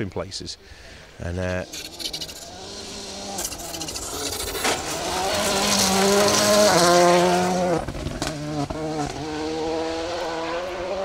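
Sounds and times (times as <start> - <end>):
rally car engine at high revs: 1.6 - 11.0.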